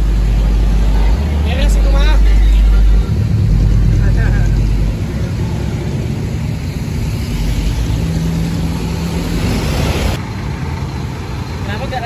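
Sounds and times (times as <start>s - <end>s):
steady drone: 0.0s - 10.6s
bus diesel engine rumbling: 0.0s - 12.0s.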